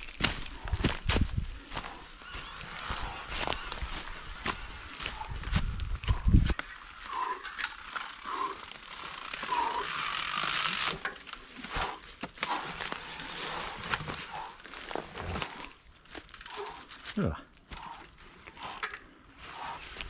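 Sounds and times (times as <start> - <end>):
bike tyres crunching dry leaves: 0.0 - 20.0.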